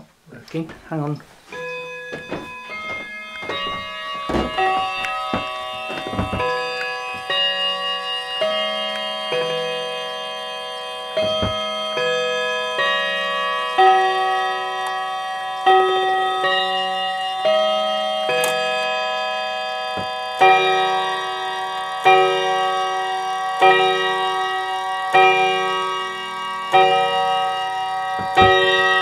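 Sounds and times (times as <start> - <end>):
clock chimes ringing: 1.5 - 29.0.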